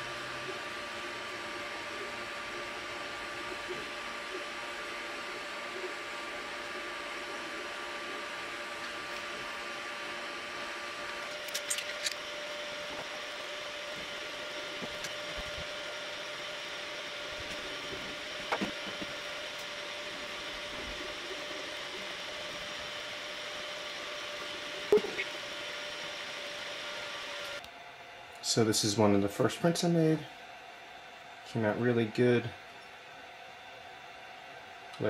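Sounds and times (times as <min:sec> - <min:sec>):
printer fans whirring: 0:00.0 - 0:35.0.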